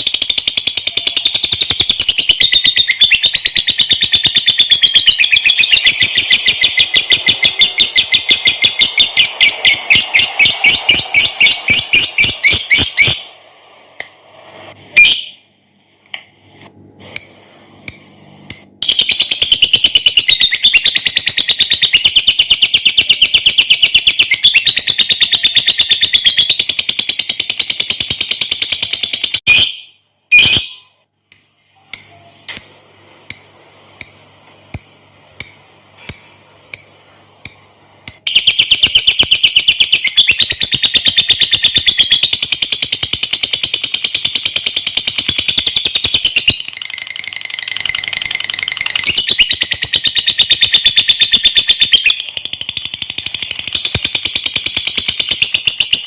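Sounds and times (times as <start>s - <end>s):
lovebird chirps and trills: 0.0s - 13.3s, 16.0s - 56.0s.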